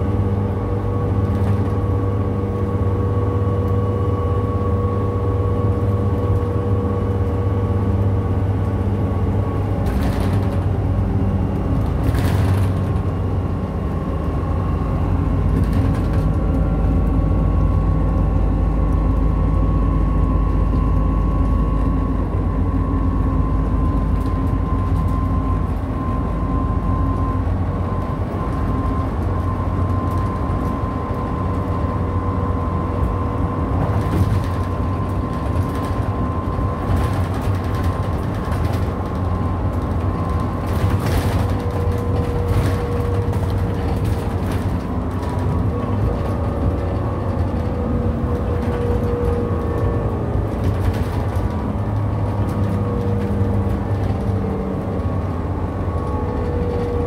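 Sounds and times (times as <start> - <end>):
bus engine drone: 0.0 - 57.0
tyre and road noise: 0.0 - 57.0.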